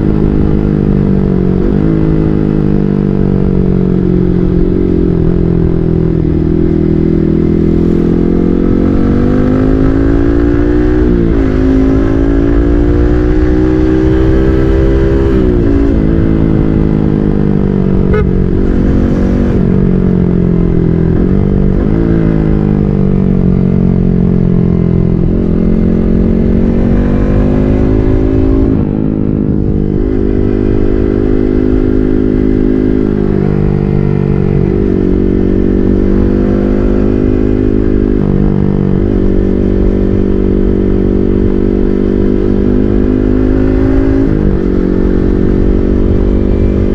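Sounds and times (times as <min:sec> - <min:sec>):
motorcycle engine revving through gears: 0:00.0 - 0:46.9.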